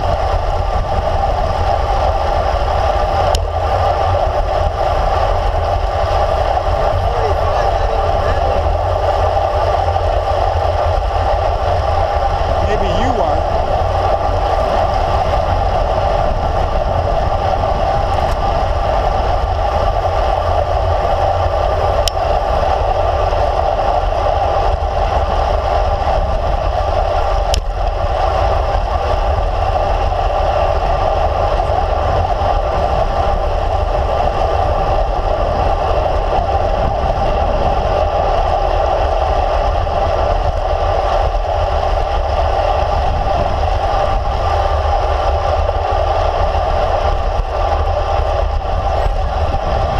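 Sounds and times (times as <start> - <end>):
bike tyres on road: 0.0 - 49.9
wind rush: 0.0 - 49.9.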